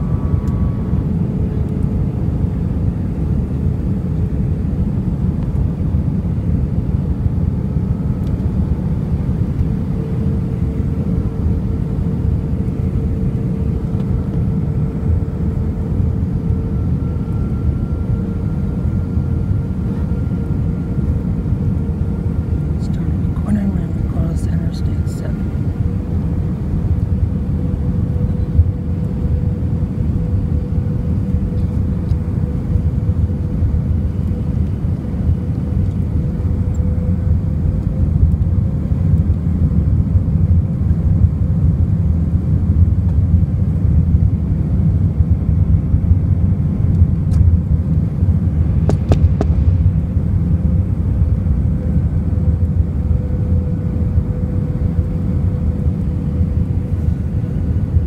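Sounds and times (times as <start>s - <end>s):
aircraft cabin rumble: 0.0s - 58.0s
steady hum: 0.0s - 58.0s.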